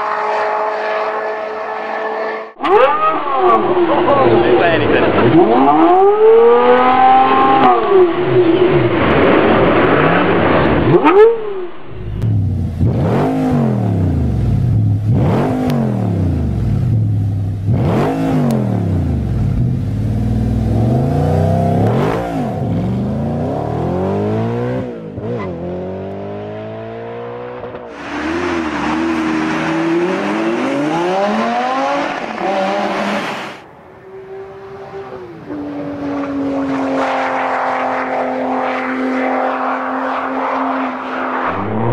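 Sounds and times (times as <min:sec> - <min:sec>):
car engine revving: 0:00.0 - 0:02.6, 0:03.7 - 0:41.9.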